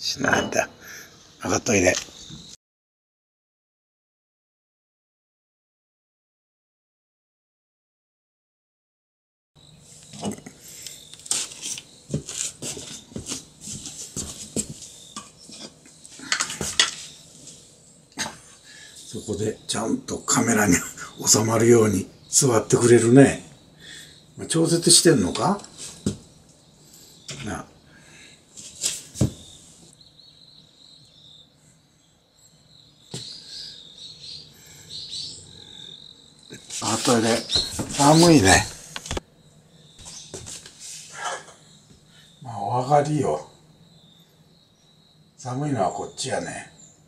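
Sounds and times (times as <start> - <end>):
insects chirring: 0.0 - 2.6, 9.6 - 47.0.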